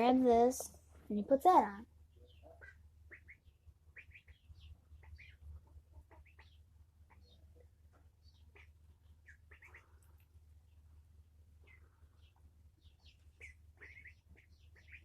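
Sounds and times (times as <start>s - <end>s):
steady low hum: 0.0s - 15.0s
small bird chirping: 0.8s - 15.0s.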